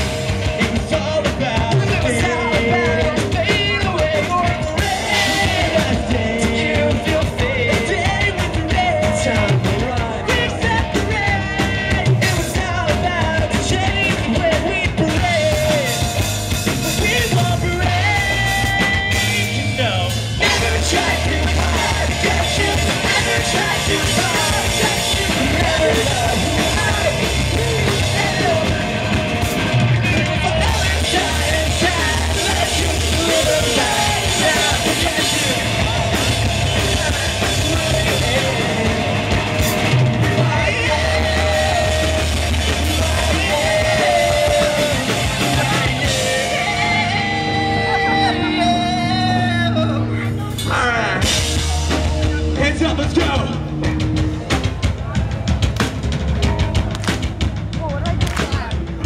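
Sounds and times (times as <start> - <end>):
person singing and yelling: 0.0 - 16.2, 16.8 - 54.1
live rock band playing: 0.0 - 59.0.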